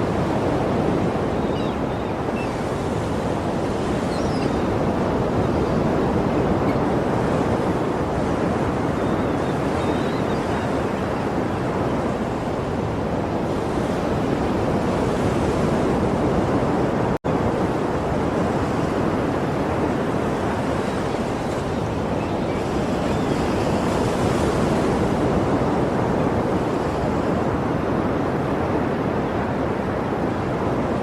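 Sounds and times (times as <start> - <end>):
sea waves breaking: 0.0 - 31.0.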